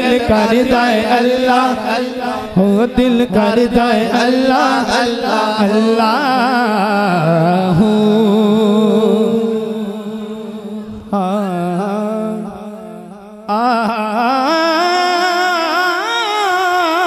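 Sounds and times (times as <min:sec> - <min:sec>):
man singing wordless melismatic vocal: 0:00.0 - 0:17.0.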